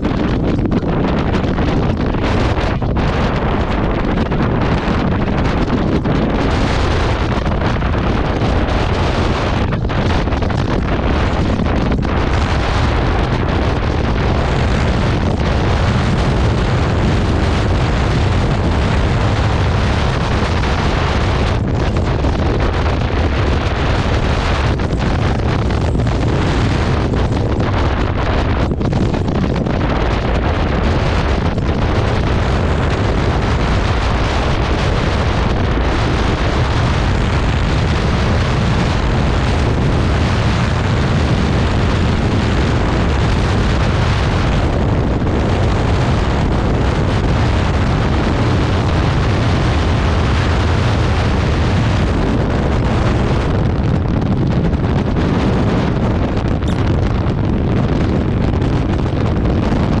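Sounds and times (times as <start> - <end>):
wind rushing over microphone: 0.0 - 60.0.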